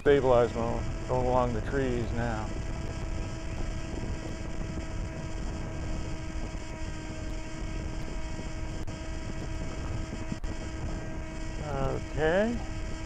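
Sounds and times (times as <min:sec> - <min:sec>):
steady whine: 0:00.0 - 0:13.0
wind rumbling on microphone: 0:00.0 - 0:13.0.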